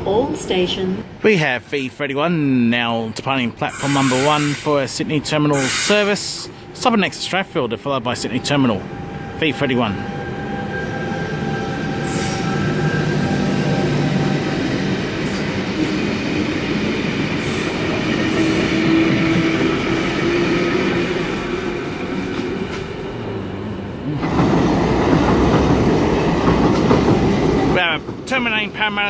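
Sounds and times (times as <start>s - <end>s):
train motors and wheels rumbling: 2.0s - 29.0s.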